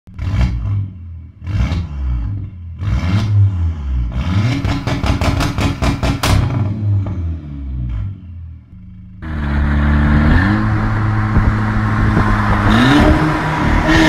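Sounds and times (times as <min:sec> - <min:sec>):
car engine revving with crackles: 0:00.1 - 0:14.0.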